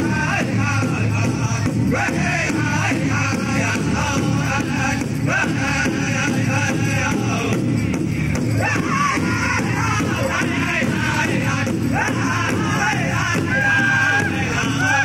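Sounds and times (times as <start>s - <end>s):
big drum beat: 0.0s - 15.0s
group singing high wavering chant: 0.0s - 15.0s.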